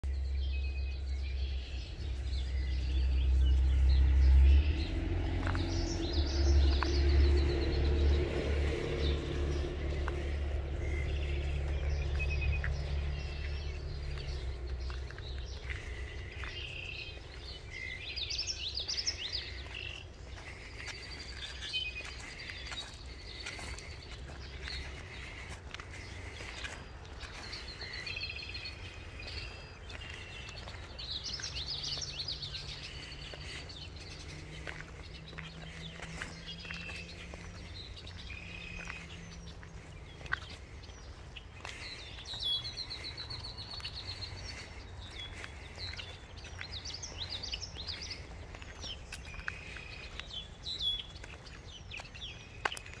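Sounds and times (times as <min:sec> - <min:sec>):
songbirds singing and trilling: 0:00.0 - 0:53.0.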